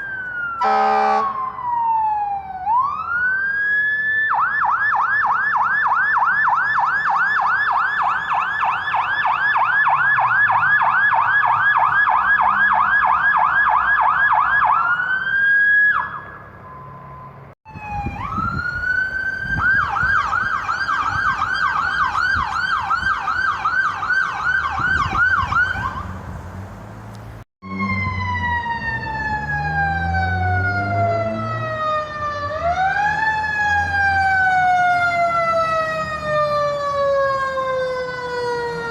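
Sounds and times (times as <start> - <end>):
emergency vehicle siren yelping: 0.0 - 26.2, 27.6 - 38.9
low traffic rumble: 0.0 - 38.9.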